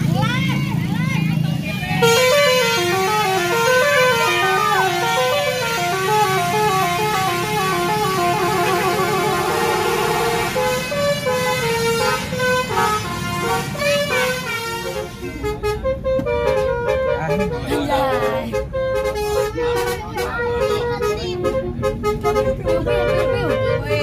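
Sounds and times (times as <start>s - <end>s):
musical bus horn melody: 2.0s - 24.0s.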